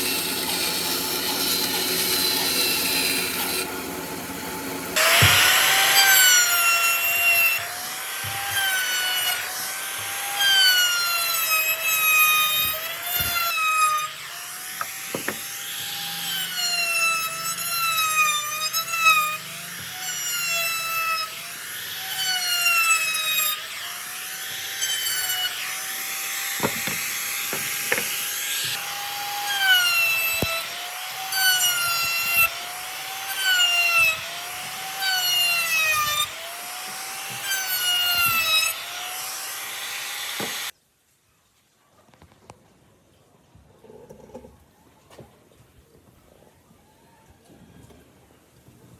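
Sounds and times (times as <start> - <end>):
power tool motor whining: 0.0 - 40.7
wood rasping: 0.0 - 40.7.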